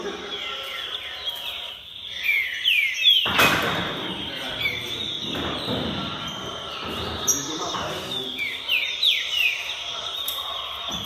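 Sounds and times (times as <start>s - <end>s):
bird singing whistled notes: 0.1s - 11.0s.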